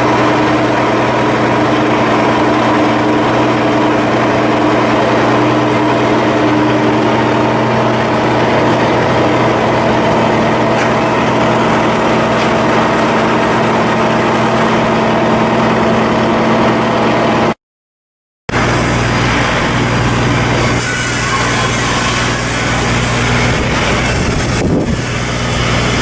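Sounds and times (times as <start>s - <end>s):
ship engine humming: 0.0s - 17.6s, 18.5s - 26.0s.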